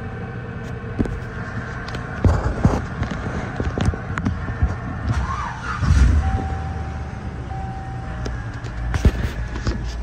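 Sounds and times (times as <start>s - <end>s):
engine idling with low hum: 0.0s - 10.0s.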